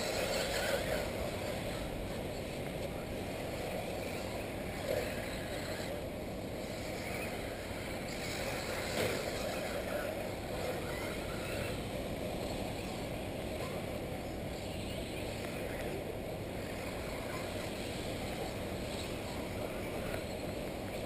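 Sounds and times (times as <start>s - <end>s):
rc cars racing: 0.0s - 21.0s.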